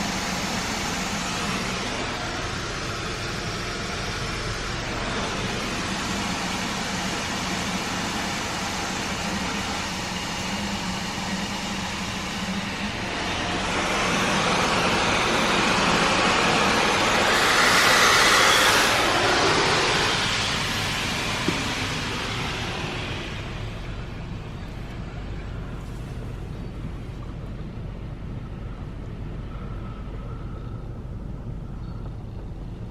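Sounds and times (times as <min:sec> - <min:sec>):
car wash equipment rushing: 0:00.0 - 0:30.8.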